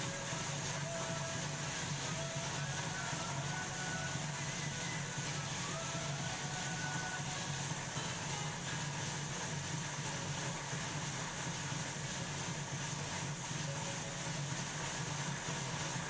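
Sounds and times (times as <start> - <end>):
bike wheel whirring on roller: 0.0 - 16.0
steady hiss: 0.0 - 16.0.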